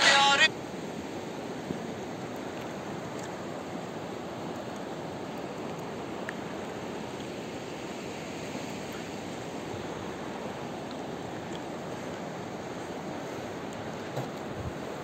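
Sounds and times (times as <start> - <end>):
river rushing over stones: 0.0 - 15.0.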